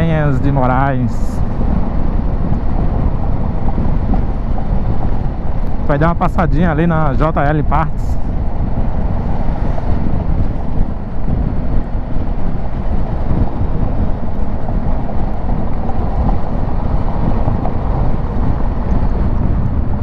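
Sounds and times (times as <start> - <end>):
motorcycle engine cruising: 0.0 - 20.0
wind noise on microphone: 0.0 - 20.0.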